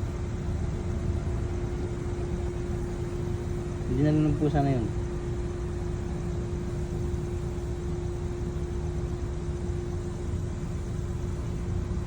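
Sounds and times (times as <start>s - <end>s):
motor humming low: 0.0s - 12.0s.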